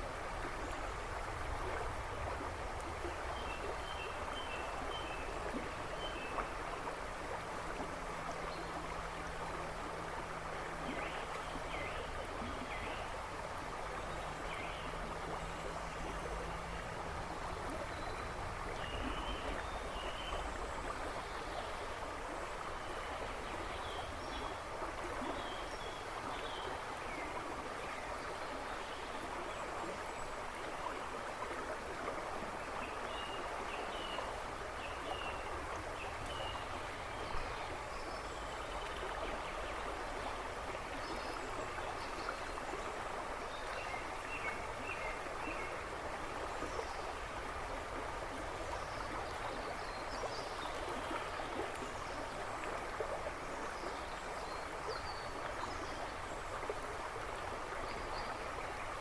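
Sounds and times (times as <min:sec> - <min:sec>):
river rushing and babbling: 0:00.0 - 0:59.0.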